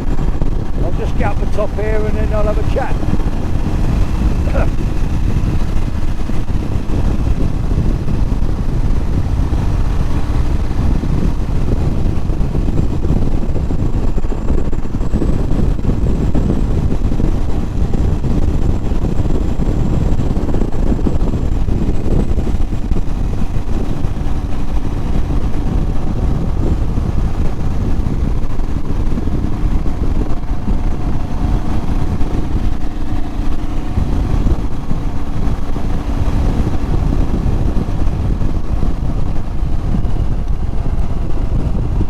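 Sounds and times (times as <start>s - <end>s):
motorcycle engine running: 0.0s - 42.0s
wind rumble on microphone: 0.0s - 42.0s.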